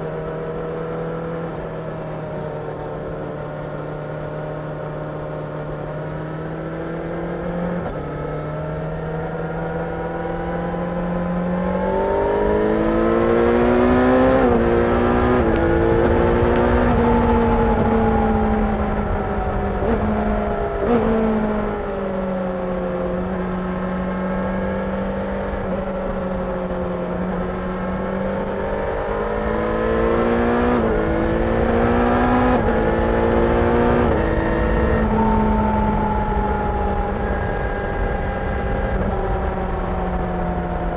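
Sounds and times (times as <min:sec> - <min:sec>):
wind and road rush: 0:00.0 - 0:40.9
motorcycle engine changing gears: 0:05.2 - 0:40.2.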